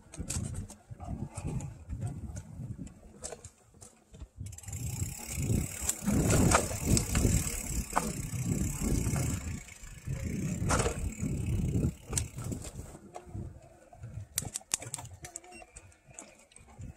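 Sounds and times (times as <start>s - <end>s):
wind buffeting microphone: 0.0s - 3.4s, 4.2s - 15.3s
bike knocking and rattling: 0.0s - 16.9s.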